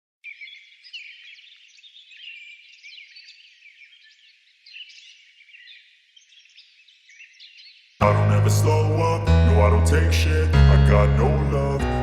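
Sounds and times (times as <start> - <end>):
many small birds chirping: 0.2 - 12.0.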